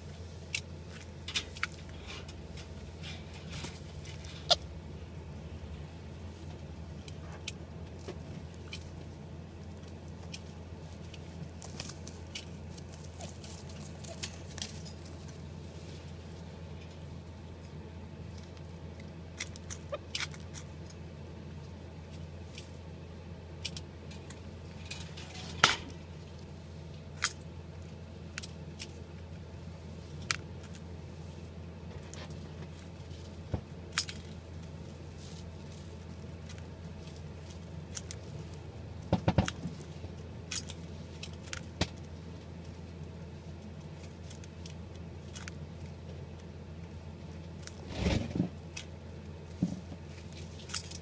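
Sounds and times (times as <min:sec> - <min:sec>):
doves moving in a wire cage: 0:00.0 - 0:51.0
steady low hum: 0:00.0 - 0:51.0.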